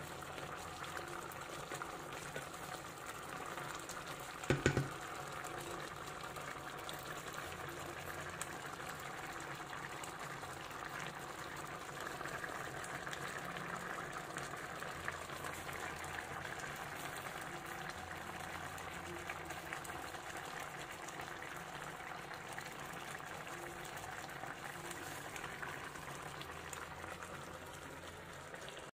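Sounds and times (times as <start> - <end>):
pot of sauce bubbling: 0.0 - 28.9.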